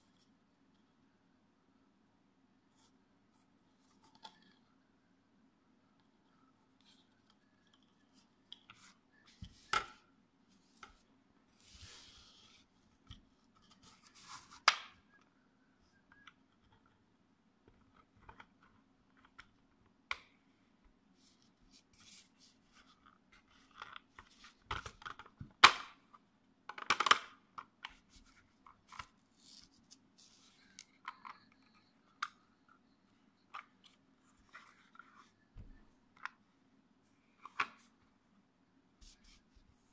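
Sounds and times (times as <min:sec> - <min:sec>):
faint low hum: 0:00.0 - 0:26.7, 0:27.4 - 0:39.9.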